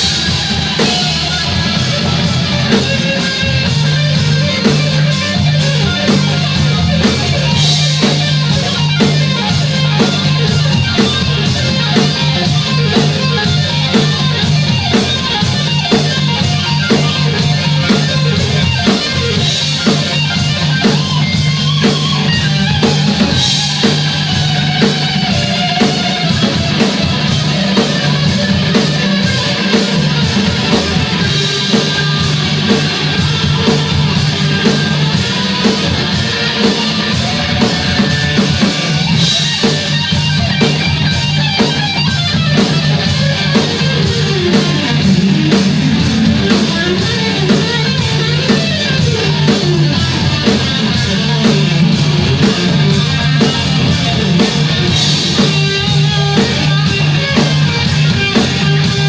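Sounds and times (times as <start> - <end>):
drum kit beat: 0.0 - 59.0
electric bass: 0.0 - 59.0
electric guitar: 0.0 - 59.0.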